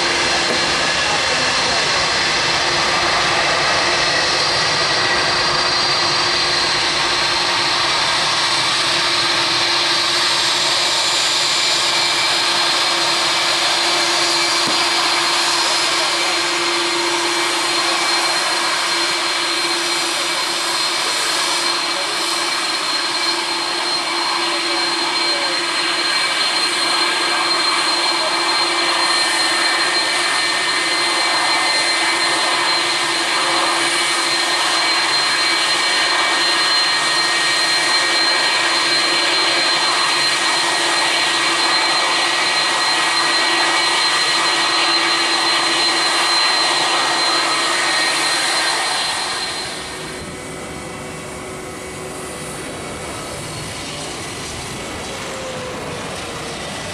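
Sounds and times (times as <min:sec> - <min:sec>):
jet engines roaring with whine: 0:00.0 - 0:56.9.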